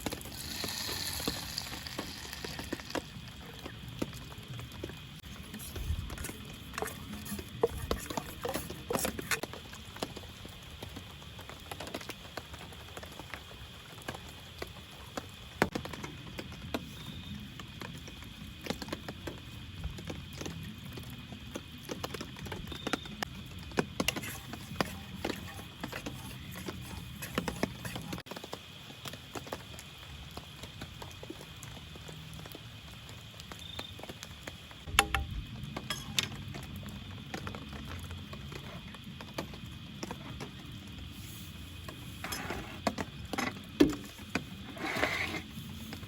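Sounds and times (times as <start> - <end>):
raindrops tapping on tarp: 0.0 - 46.0.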